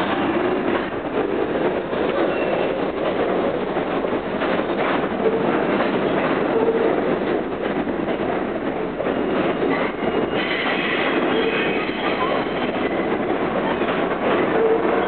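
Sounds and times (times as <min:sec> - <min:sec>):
subway train wheels on rails: 0:00.0 - 0:15.0.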